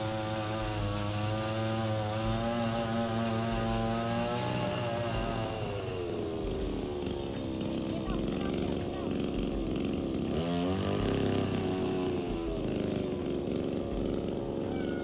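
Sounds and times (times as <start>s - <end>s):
lawn mower running: 0.0s - 15.0s.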